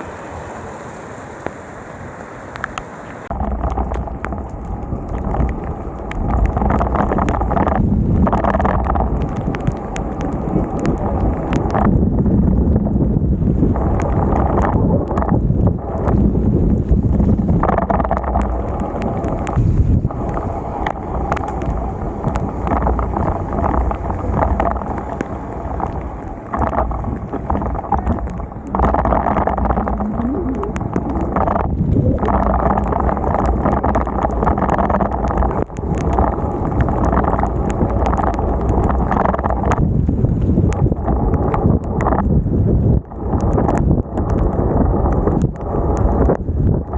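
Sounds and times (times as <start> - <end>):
wind and rain on microphone: 0.0 - 46.9.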